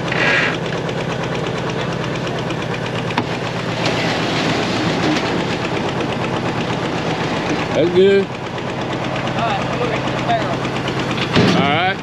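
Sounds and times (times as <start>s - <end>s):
engine idling with knocking rhythm: 0.0s - 12.0s.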